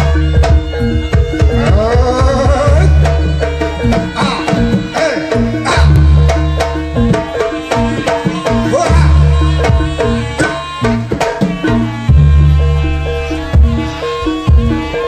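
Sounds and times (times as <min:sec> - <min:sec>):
hand drums: 0:00.0 - 0:15.0
metallophone notes: 0:00.0 - 0:15.0
wavering melody line: 0:00.0 - 0:15.0.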